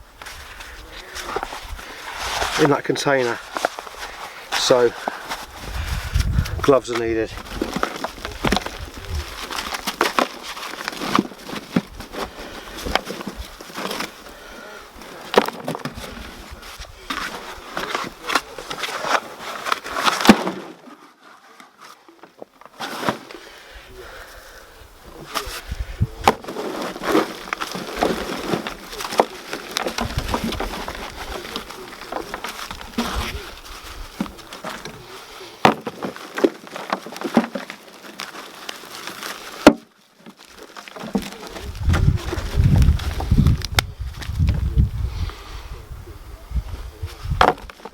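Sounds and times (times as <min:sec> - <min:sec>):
hands digging through dry compost: 0:00.2 - 0:24.3, 0:25.0 - 0:45.6.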